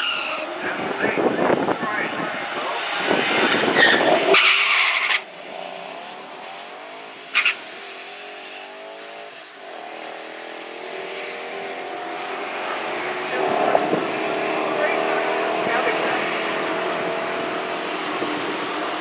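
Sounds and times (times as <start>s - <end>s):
distant engines revving up: 0.0s - 19.0s
drag cars launching: 0.0s - 19.0s.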